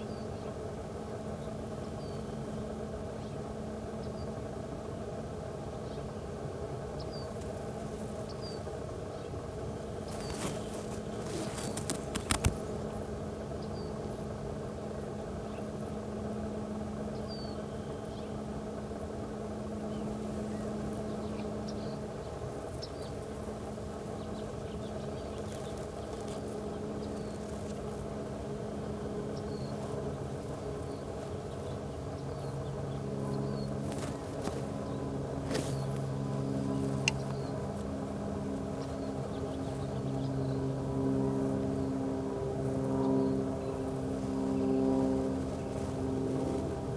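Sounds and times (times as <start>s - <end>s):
deeper engine tone: 0.0s - 46.9s
low engine drone: 0.0s - 46.9s.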